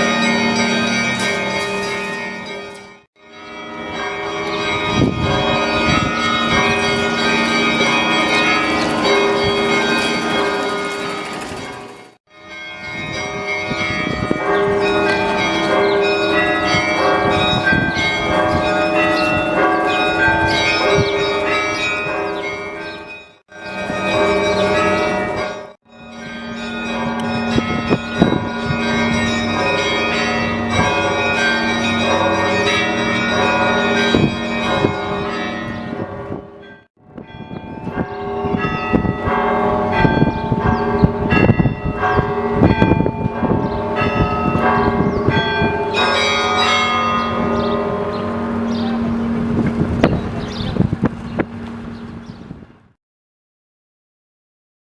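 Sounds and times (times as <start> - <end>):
church bells ringing: 0.0 - 52.2.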